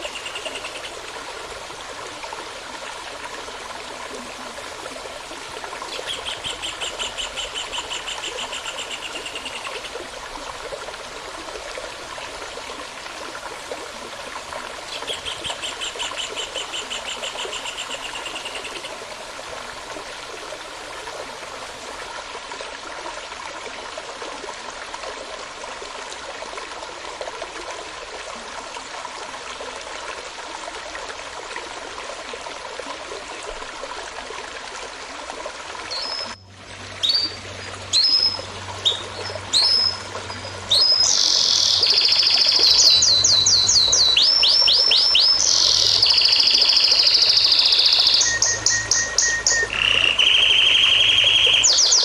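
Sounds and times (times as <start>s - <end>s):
stream babbling: 0.0s - 52.0s.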